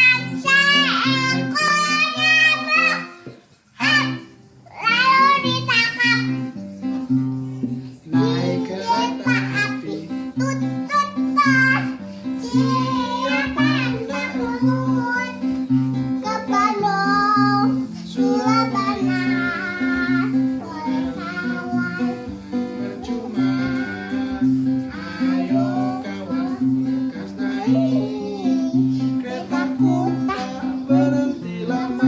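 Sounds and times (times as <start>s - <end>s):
child singing: 0.0s - 6.6s, 8.0s - 32.0s
strummed acoustic guitar: 0.0s - 32.0s.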